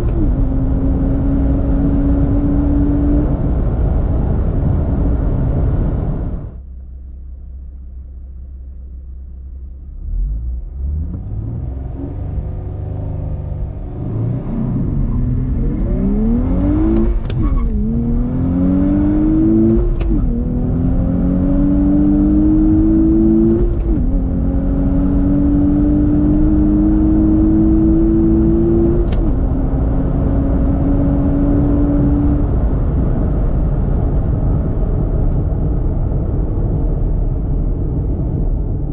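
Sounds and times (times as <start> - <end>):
car engine accelerating: 0.0 - 8.4, 9.0 - 38.9.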